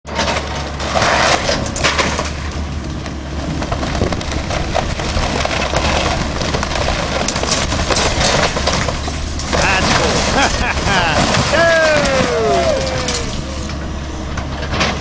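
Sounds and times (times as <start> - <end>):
timber cracking and splintering: 0.1 - 13.8
steady low hum: 1.7 - 15.0.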